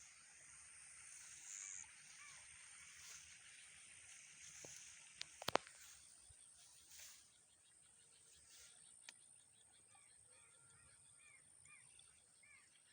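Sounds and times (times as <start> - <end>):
faint bird chirps: 0.0 - 12.9
high-pitched background hum: 0.0 - 12.9.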